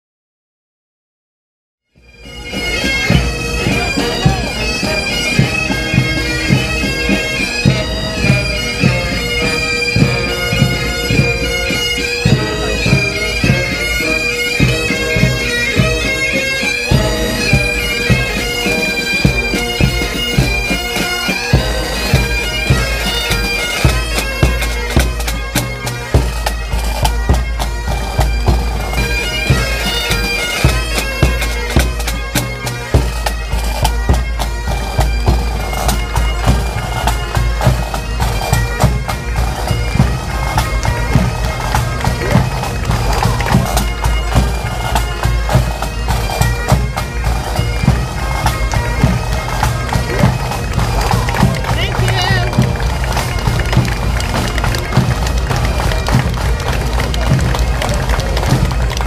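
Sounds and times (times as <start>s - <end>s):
bagpipes playing a tune: 2.0s - 59.0s
drum beat: 2.8s - 16.2s, 16.8s - 59.0s.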